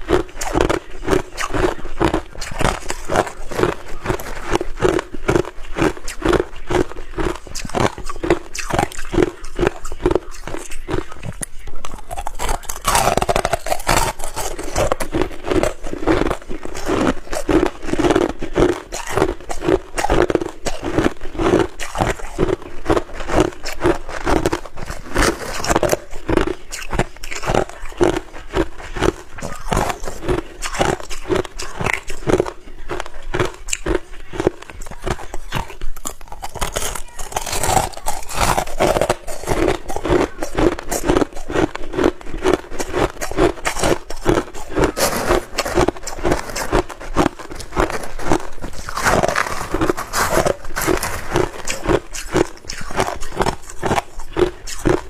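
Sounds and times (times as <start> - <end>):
chewing and crunching ice: 0.0 - 55.0.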